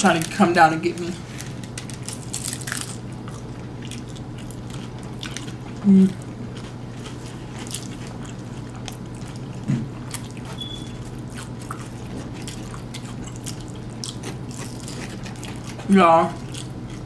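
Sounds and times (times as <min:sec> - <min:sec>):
chewing crunchy food: 0:00.0 - 0:17.0
steady low hum: 0:00.0 - 0:17.0.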